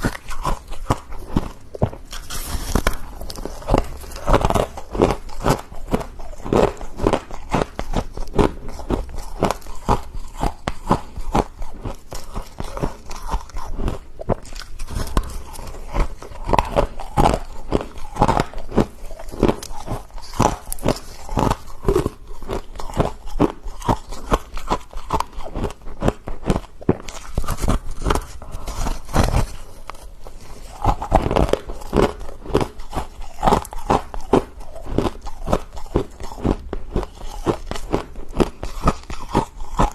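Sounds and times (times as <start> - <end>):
person crunching frost: 0.0 - 39.9.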